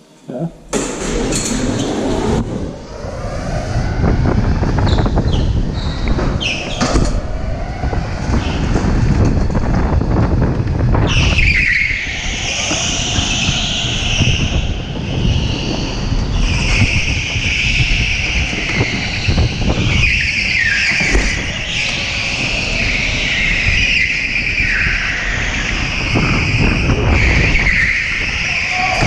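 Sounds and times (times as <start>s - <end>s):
low rumble: 0.6s - 29.0s
electric go-karts whining: 0.7s - 29.0s.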